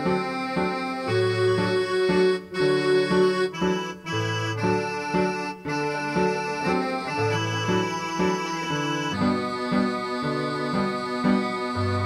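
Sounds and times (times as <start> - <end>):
keyboard music with accordion melody: 0.0 - 12.0.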